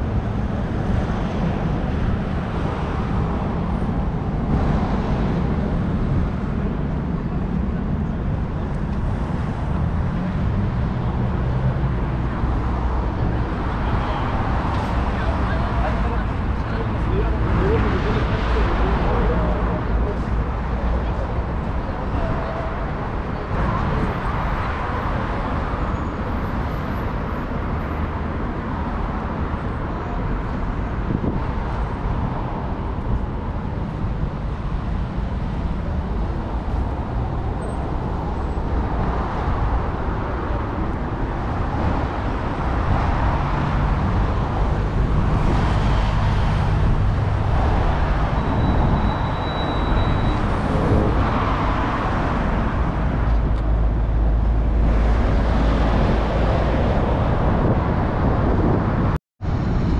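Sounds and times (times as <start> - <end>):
cars passing: 0.0 - 59.9
vehicle engine drone: 0.0 - 59.9.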